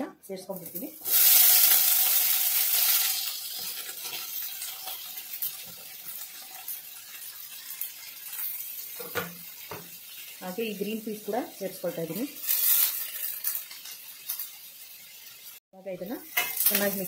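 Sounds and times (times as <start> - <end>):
vegetables sizzling in hot oil: 0.2 - 17.0.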